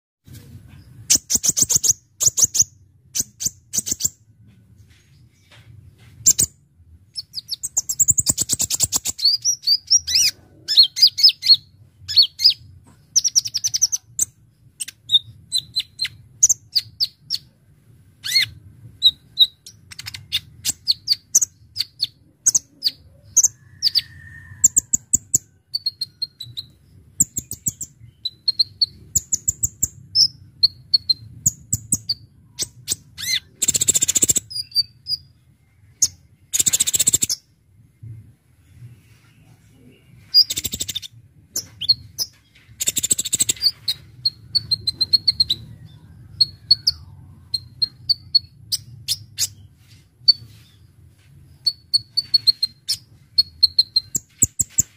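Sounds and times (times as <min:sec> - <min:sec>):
bird chattering and trilling: 0:01.0 - 0:04.2, 0:07.1 - 0:17.5, 0:18.2 - 0:37.5, 0:39.8 - 0:49.7, 0:51.6 - 0:54.9.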